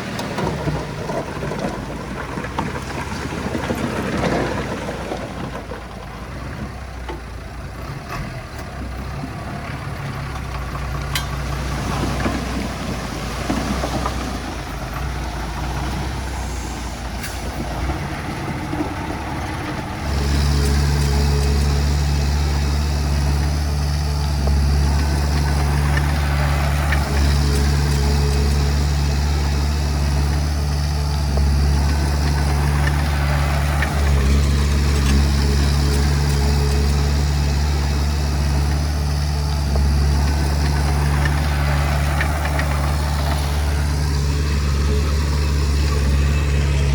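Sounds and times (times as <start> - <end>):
diesel engine of heavy equipment: 0.0 - 46.9.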